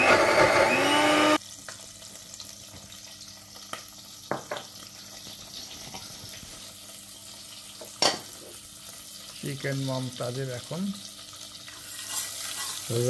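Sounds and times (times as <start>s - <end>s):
oil frying in a pot: 1.4s - 13.0s.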